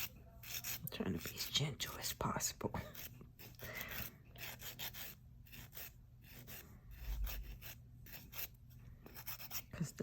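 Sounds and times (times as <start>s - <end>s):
cuticle pusher scraping fingernail: 0.0s - 1.7s, 2.9s - 9.8s.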